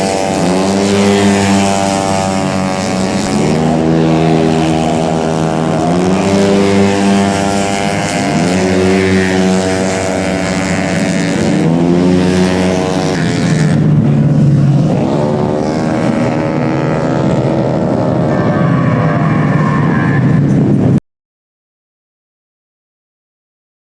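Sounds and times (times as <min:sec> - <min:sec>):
racing scooter engines accelerating: 0:00.0 - 0:21.0.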